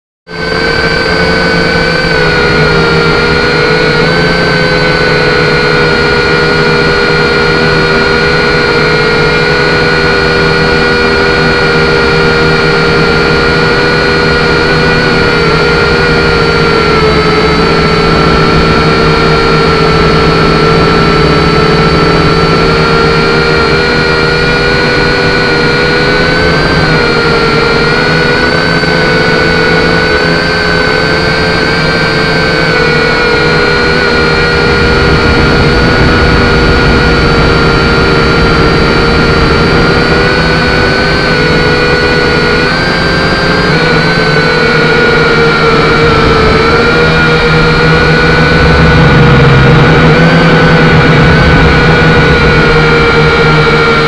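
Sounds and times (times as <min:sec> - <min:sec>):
quadcopter motors whining: 0:00.3 - 0:54.0.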